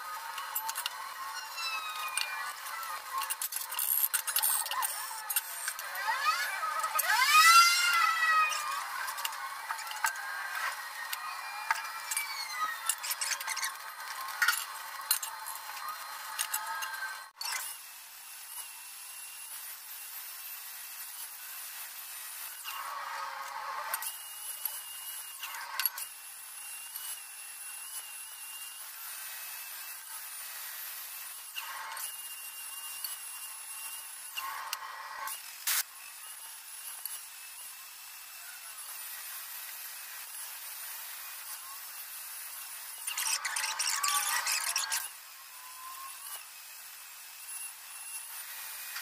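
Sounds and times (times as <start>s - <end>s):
angle grinder grinding steel: 0.0s - 49.0s.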